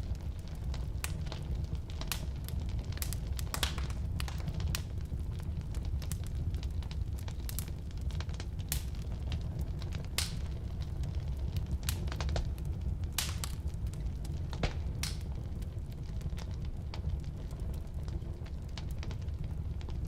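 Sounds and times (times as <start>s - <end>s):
logs crackling and popping: 0.0s - 20.0s
low rumble of flame: 0.0s - 20.0s.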